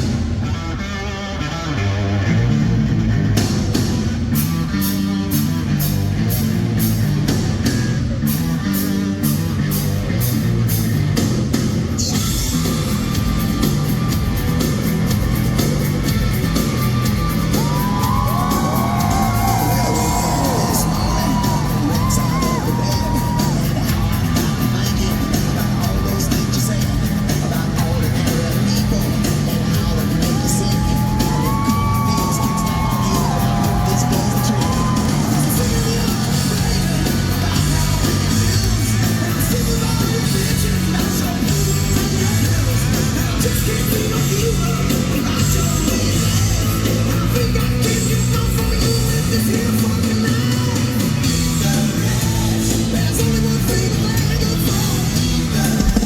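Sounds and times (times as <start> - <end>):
live rock band playing: 0.0 - 56.0
driving drum beat: 2.5 - 56.0.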